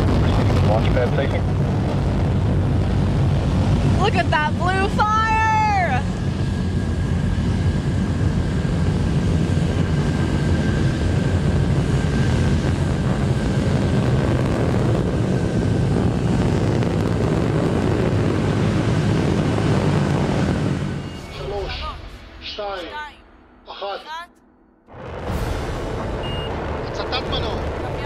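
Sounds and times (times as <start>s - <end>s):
rocket engines rumbling: 0.0s - 24.0s, 24.9s - 28.0s.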